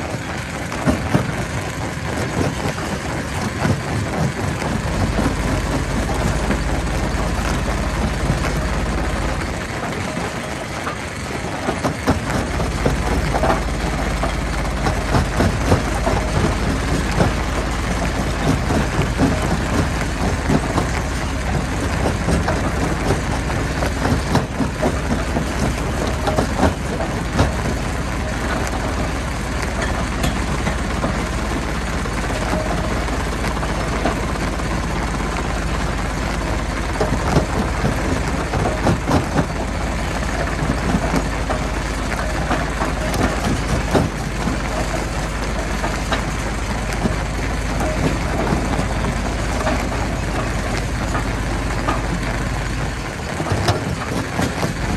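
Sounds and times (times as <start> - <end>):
heavy diesel machinery running: 0.0 - 54.9
knocks and clatter: 0.0 - 54.9.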